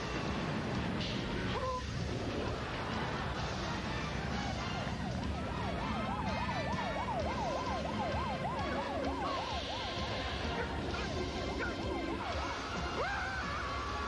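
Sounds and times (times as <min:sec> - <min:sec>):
vehicle siren wailing: 0:01.4 - 0:14.0.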